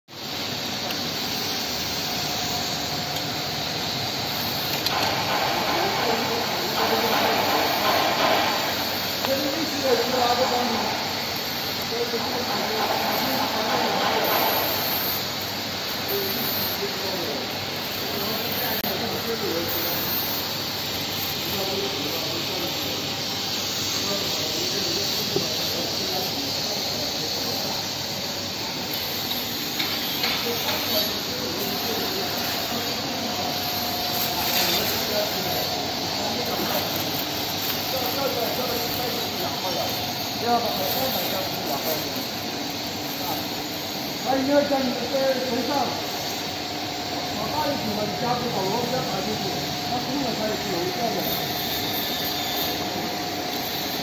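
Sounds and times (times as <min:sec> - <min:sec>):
machinery whirring and hissing: 0:00.1 - 0:54.0.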